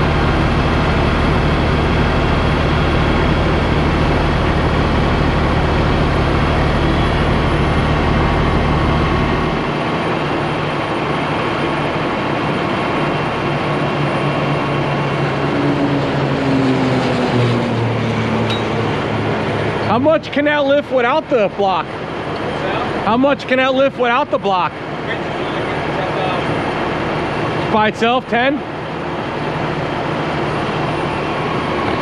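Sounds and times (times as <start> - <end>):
heavy diesel engine droning: 0.0 - 32.0.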